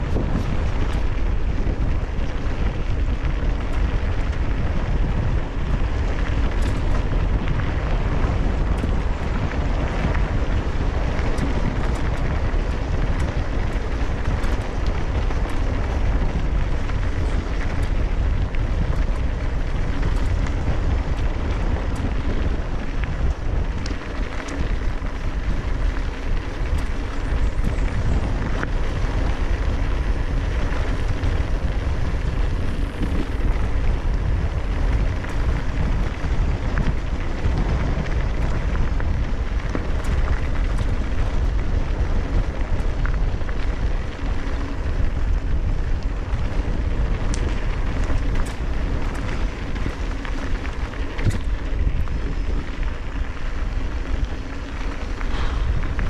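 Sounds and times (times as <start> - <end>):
bike clicks and rattles: 0.0 - 56.0
tyre noise: 0.0 - 56.0
wind buffeting microphone: 0.0 - 56.0.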